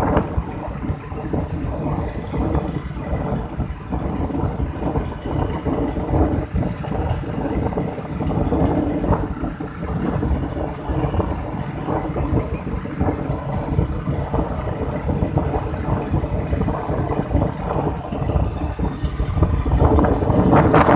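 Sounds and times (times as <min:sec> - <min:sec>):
vehicle engine and road noise: 0:00.0 - 0:20.9.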